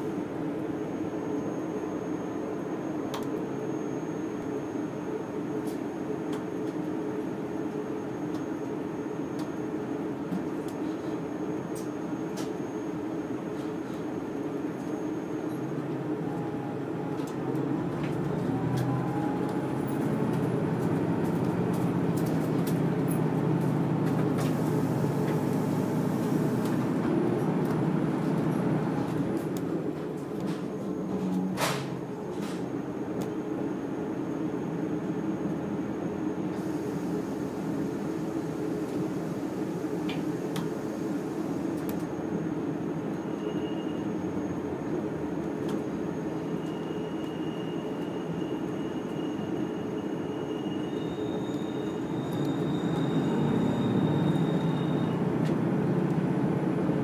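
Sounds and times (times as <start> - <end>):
faint rising train whine: 0.0 - 57.0
train carriage hum: 0.0 - 57.0.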